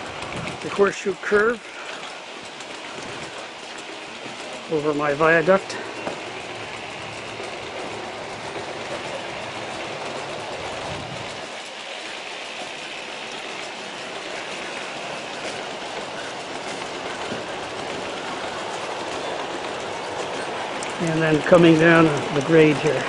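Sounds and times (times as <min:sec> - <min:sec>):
model train rumbling on track: 0:00.0 - 0:23.0
wheels clicking over rail joints: 0:00.0 - 0:23.0.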